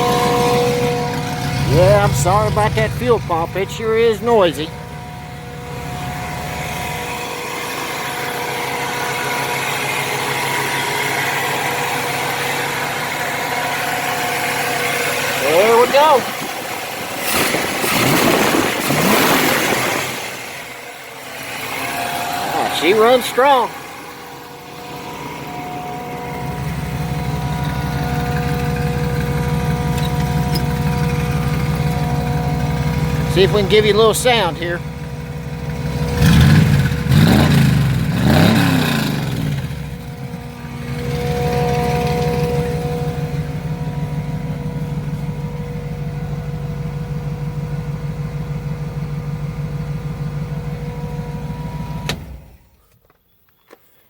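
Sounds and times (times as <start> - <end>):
engine idling: 0.0 - 52.9
fuel pump whine: 0.0 - 53.1.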